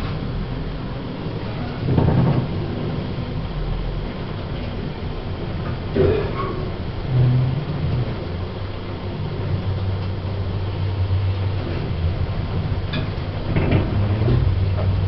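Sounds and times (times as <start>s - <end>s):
lift humming: 0.0s - 15.0s.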